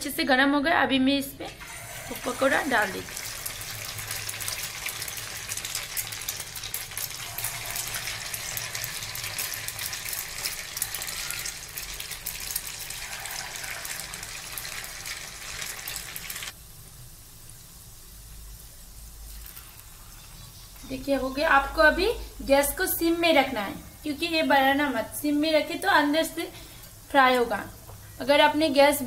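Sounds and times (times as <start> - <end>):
batter sizzling in hot oil: 1.6 - 29.0.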